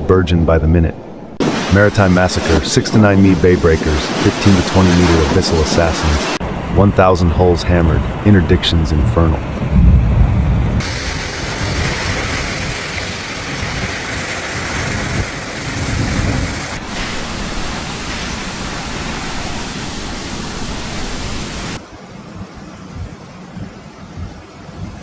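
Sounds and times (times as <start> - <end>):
heavy rain and wind rushing: 1.2 - 25.0.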